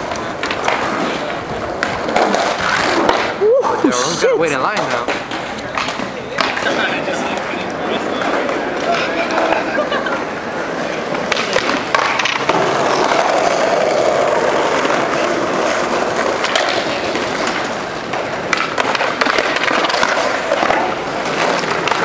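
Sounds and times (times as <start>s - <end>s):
skateboard clacks: 0.0s - 3.8s, 4.4s - 22.0s
skateboard wheels rolling on stone: 0.0s - 22.0s.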